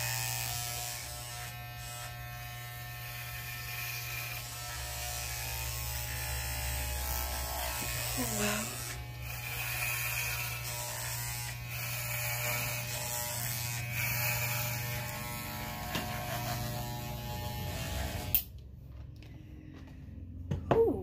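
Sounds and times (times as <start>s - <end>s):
electric hair clippers buzzing: 0.0s - 18.5s.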